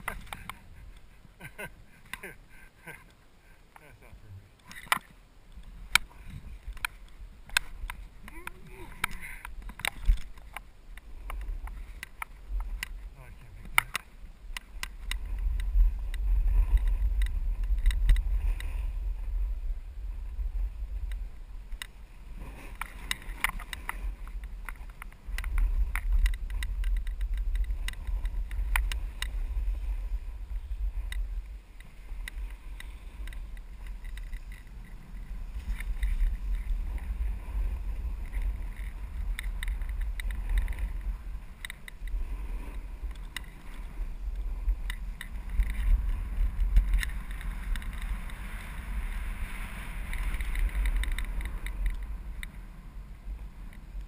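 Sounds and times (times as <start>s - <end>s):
wind buffeting microphone: 4.0s - 54.0s
snowboard scraping over snow: 5.7s - 54.0s.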